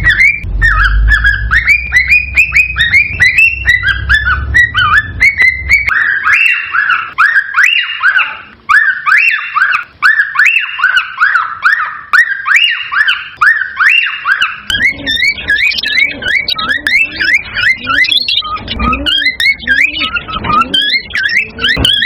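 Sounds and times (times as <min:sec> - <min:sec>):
cockatiel whistling calls: 0:00.0 - 0:22.0.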